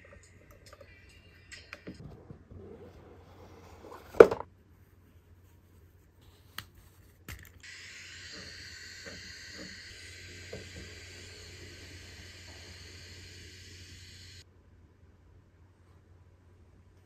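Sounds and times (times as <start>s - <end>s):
faint steady hiss: 3.2s - 17.0s.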